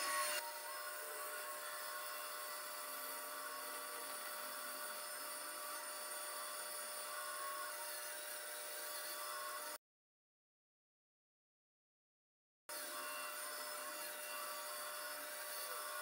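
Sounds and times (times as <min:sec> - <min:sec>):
scroll saw cutting plywood: 0:00.0 - 0:09.8, 0:12.7 - 0:16.0.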